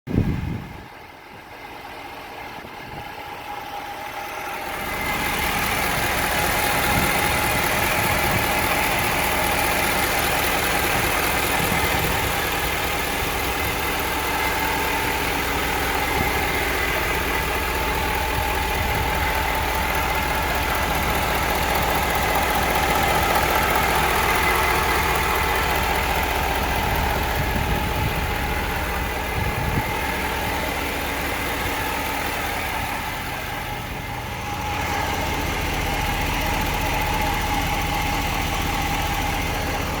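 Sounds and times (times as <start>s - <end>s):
diesel engine idling: 0.1s - 40.0s.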